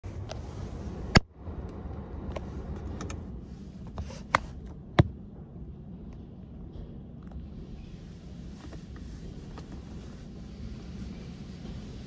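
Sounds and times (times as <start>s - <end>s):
car wash machinery rumble: 0.0s - 12.0s.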